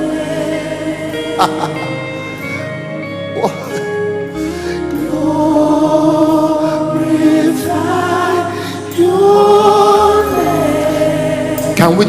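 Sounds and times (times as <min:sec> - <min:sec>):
voices singing held notes: 0:00.0 - 0:02.5, 0:04.8 - 0:12.0
keyboard and bass: 0:00.0 - 0:12.0.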